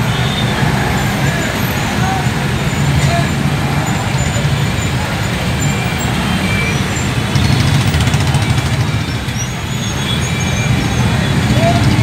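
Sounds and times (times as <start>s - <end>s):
motorcycle and scooter engines: 0.0s - 12.0s.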